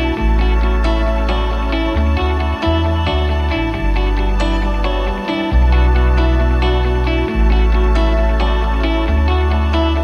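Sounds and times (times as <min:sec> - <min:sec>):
deep sustained bass note: 0:00.0 - 0:10.0.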